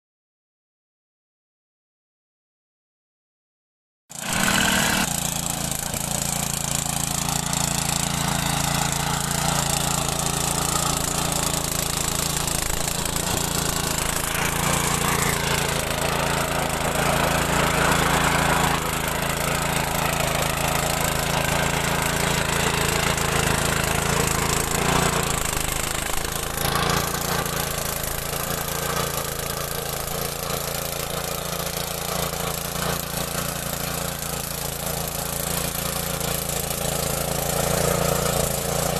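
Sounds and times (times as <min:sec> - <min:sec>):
tractor engine running: 0:04.2 - 0:38.9.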